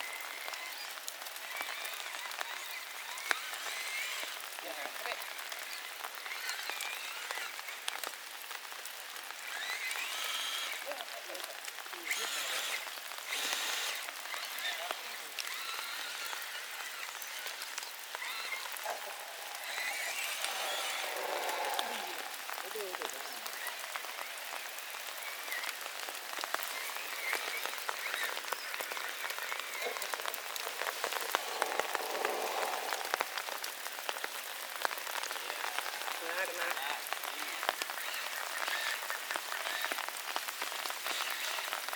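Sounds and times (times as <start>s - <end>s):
rain hiss: 0.0s - 41.9s
raindrop taps: 0.0s - 41.9s.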